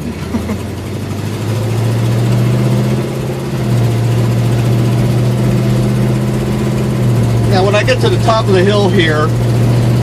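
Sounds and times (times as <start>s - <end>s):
car engine driving slowly: 0.0s - 10.0s.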